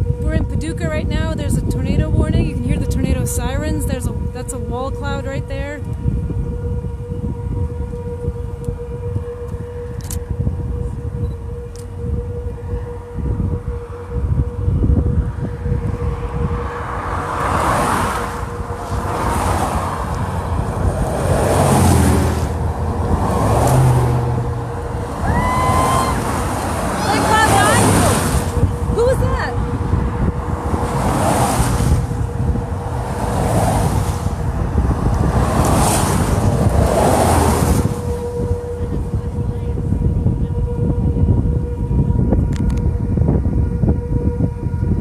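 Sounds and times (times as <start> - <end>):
distant warning siren: 0.0 - 45.0
vehicles passing by: 0.0 - 45.0
wind rumbling on microphone: 0.0 - 45.0.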